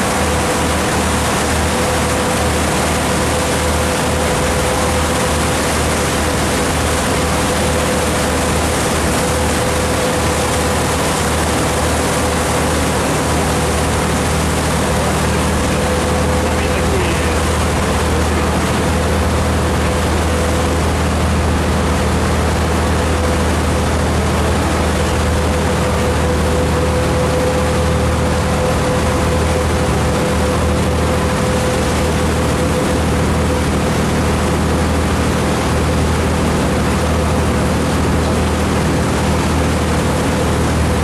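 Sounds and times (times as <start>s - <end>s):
boat engine droning: 0.0s - 41.0s
rush of wind and water: 0.0s - 41.0s.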